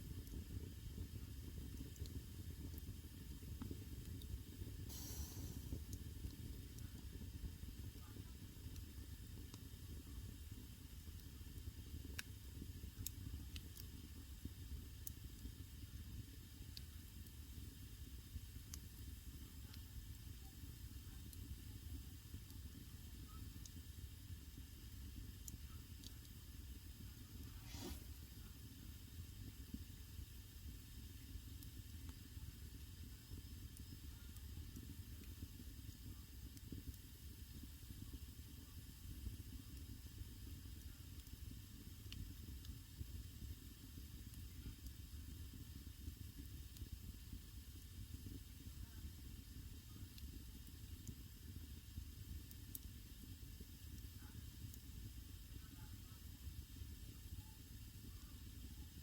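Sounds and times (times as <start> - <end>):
fire crackles and pops: 0.0 - 59.0.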